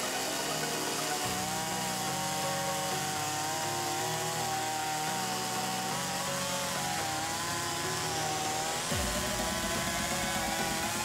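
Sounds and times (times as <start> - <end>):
chainsaw cutting logs: 0.0 - 11.0.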